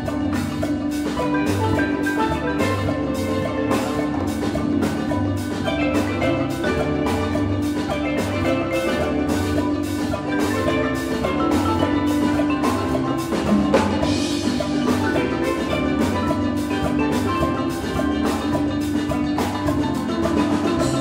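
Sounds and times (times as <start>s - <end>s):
drum kit beat: 0.0s - 21.0s
marimba: 0.0s - 21.0s
steel pan chords and melody: 0.0s - 21.0s.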